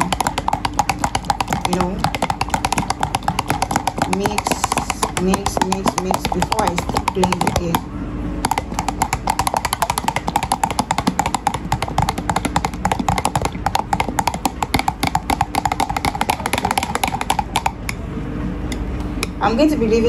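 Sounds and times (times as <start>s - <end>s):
rapid irregular clicking: 0.0s - 7.8s, 8.4s - 18.0s
stick blender running: 0.0s - 7.8s, 8.4s - 17.8s.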